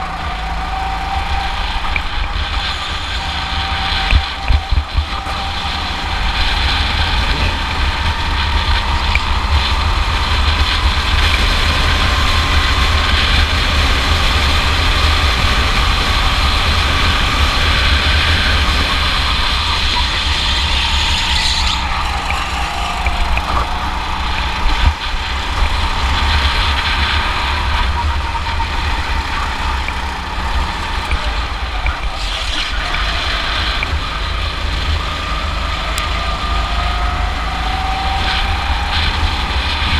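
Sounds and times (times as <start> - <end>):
go-kart engine running hard: 0.0 - 39.9
wind rumble: 0.0 - 39.9.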